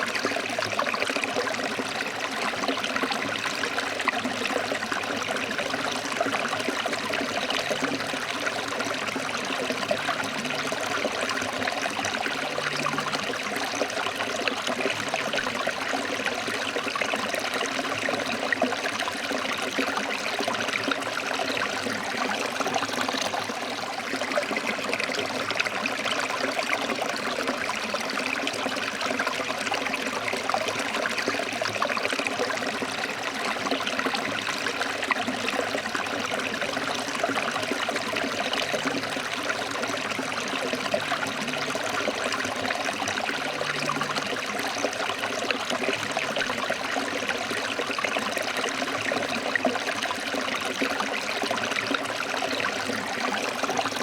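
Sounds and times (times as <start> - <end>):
stream splashing over rocks: 0.0 - 54.0.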